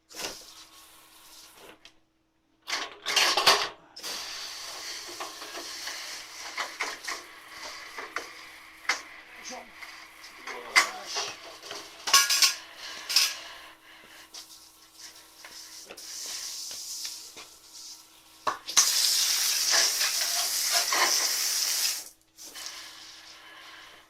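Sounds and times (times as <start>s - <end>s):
water running onto stove: 0.0s - 1.8s, 4.0s - 24.0s.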